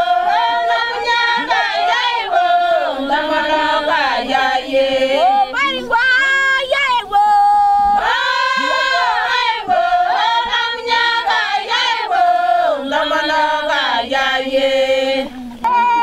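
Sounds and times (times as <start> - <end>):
women singing unaccompanied: 0.0 - 16.0.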